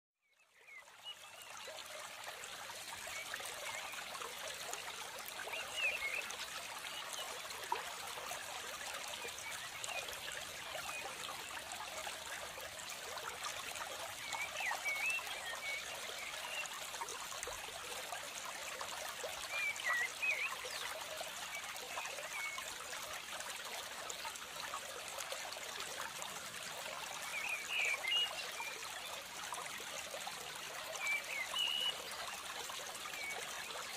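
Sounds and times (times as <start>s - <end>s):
water trickling: 0.5s - 33.9s.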